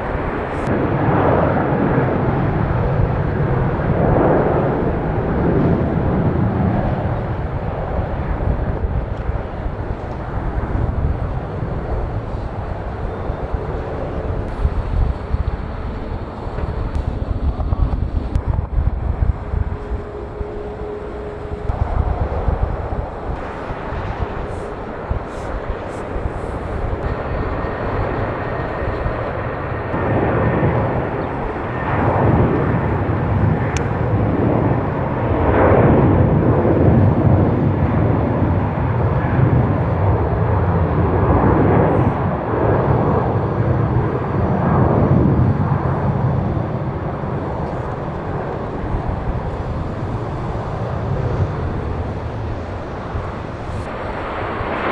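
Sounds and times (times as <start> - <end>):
jet engine roar: 0.0 - 54.9.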